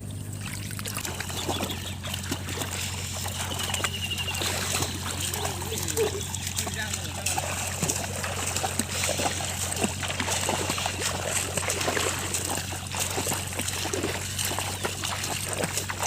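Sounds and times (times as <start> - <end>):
low hum: 0.0 - 16.0
shallow water splashing: 0.0 - 16.0.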